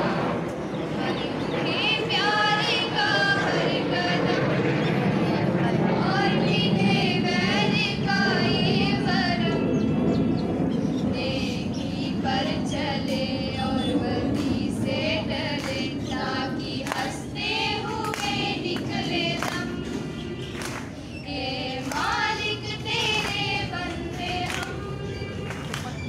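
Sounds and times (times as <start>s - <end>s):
girls singing together: 0.9s - 9.6s, 11.1s - 25.7s.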